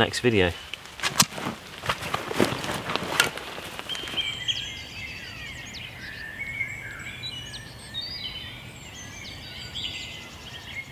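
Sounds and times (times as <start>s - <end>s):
songbirds singing: 0.0s - 10.9s.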